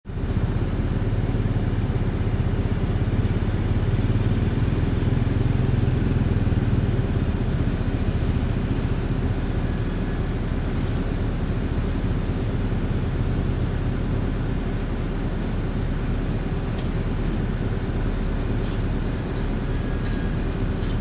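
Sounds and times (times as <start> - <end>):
excavator diesel engine pulsing: 0.1 - 21.0.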